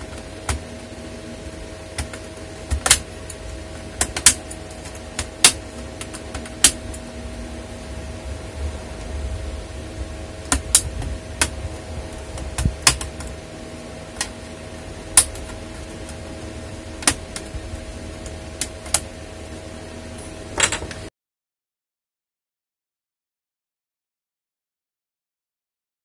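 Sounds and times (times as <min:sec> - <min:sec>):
room fan humming: 0:00.0 - 0:21.1.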